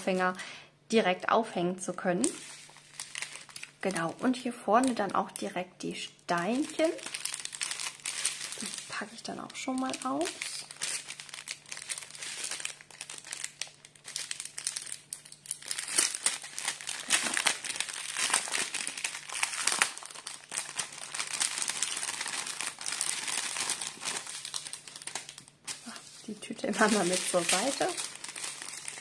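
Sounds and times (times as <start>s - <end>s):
plastic packaging crinkling: 2.2s - 5.6s, 6.3s - 29.0s.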